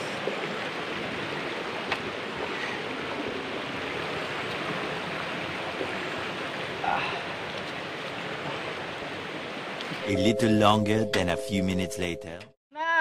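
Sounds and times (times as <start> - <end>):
creek water rushing: 0.0 - 10.9.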